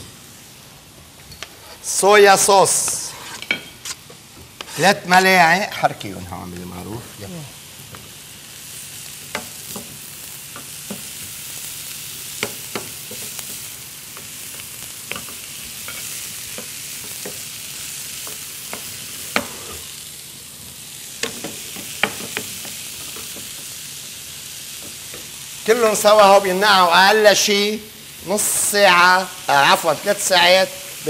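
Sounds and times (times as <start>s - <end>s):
food sizzling in frying pan: 0.0s - 31.0s.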